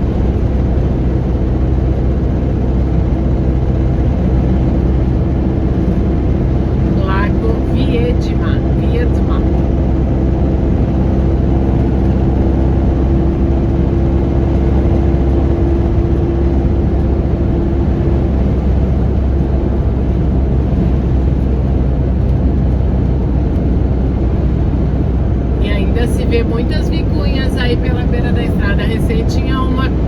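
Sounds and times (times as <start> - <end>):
road and wind noise: 0.0 - 30.0
steady hum: 0.0 - 30.0.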